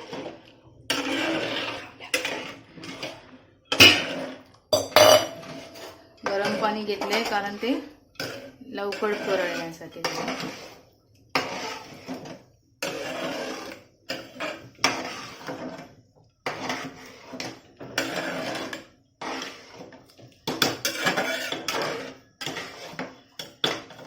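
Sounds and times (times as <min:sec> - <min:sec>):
spoon scraping a metal pot: 0:00.0 - 0:24.0.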